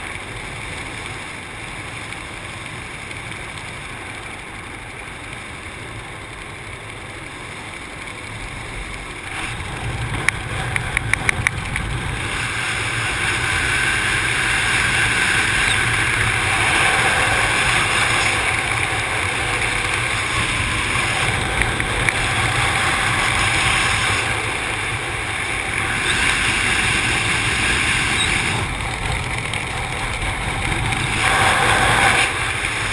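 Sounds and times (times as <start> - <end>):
rushing air buffeting camera: 0.0 - 32.9.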